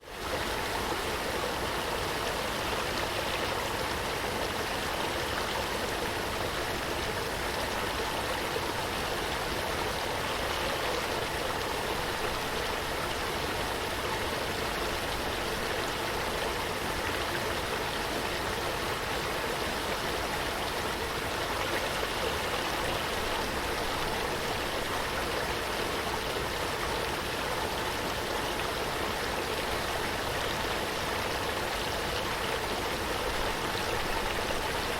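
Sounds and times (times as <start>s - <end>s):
running water rushing: 0.0s - 34.9s.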